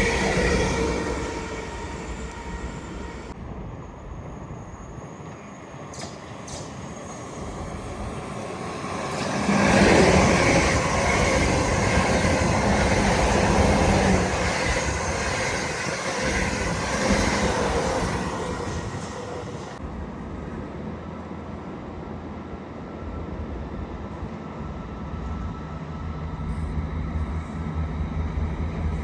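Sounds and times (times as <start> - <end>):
train passing: 0.0 - 29.0.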